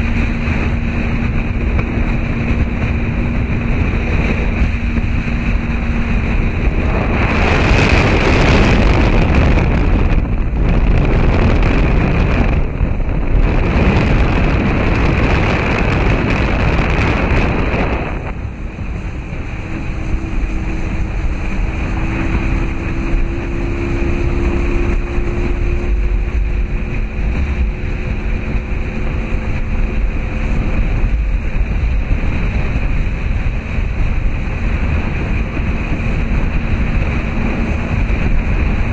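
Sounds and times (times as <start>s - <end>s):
water rushing: 0.0s - 38.9s
wind on microphone: 0.0s - 38.9s.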